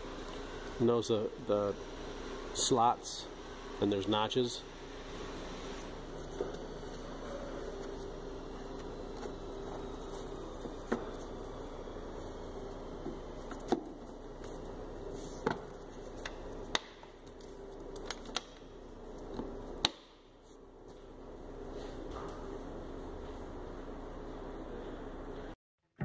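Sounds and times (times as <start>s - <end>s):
steady background hum: 0.0s - 25.6s.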